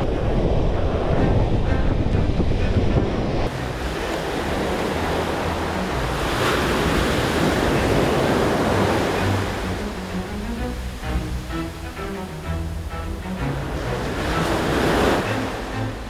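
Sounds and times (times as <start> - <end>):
ocean surf breaking: 0.0 - 16.0
wind on microphone: 0.0 - 16.0.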